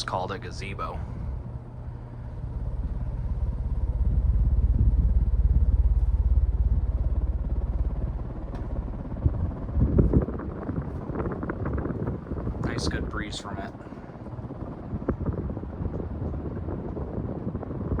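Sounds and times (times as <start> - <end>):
ceiling fan motor hum: 0.0 - 18.0
fan breeze buffeting microphone: 0.0 - 18.0.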